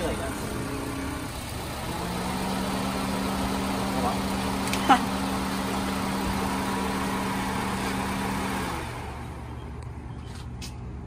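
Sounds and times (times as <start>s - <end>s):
cooling fan running loudly: 0.0s - 10.0s
car engine idling: 0.0s - 11.0s.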